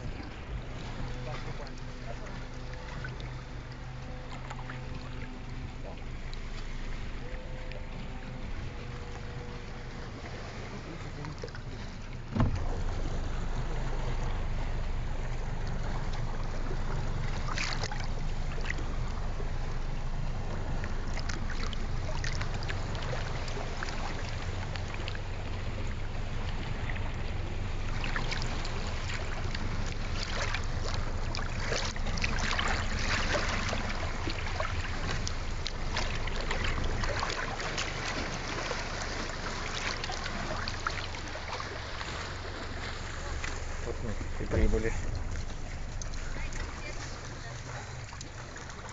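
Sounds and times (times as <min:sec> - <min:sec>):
underwater rumble: 0:00.0 - 0:48.9.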